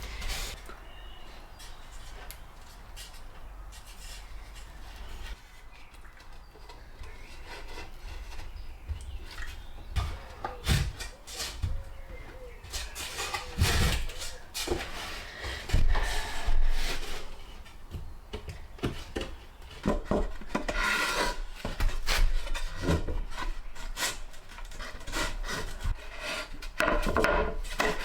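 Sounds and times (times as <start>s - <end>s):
rubbing and scraping wood: 0.0s - 0.7s, 1.7s - 28.0s.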